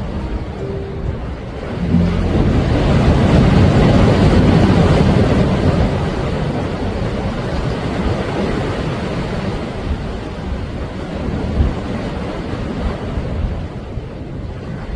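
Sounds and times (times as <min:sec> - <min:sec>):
waves washing onto shore: 0:00.0 - 0:14.9.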